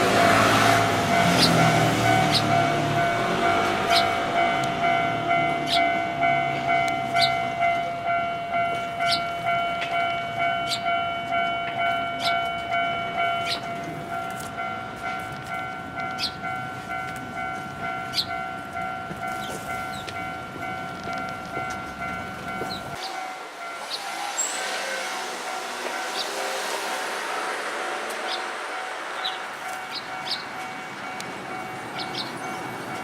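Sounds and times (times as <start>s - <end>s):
level-crossing alarm bell ringing: 0.0s - 33.0s.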